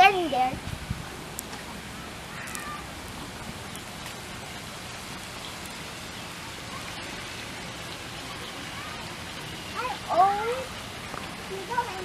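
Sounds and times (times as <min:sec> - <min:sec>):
water fountain splashing: 0:00.0 - 0:12.0.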